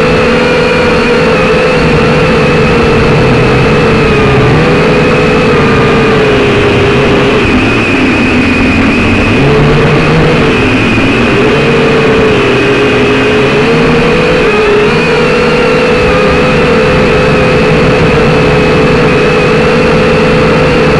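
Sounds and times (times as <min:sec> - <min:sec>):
quadcopter motors buzzing: 0:00.0 - 0:20.9
wind buffeting: 0:00.0 - 0:20.9.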